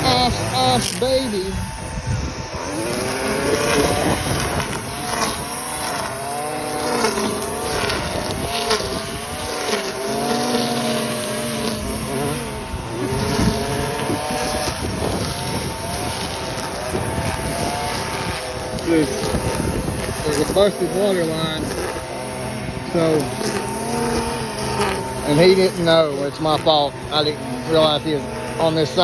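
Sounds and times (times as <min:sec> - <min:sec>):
string trimmer engine revving: 0:00.0 - 0:29.0.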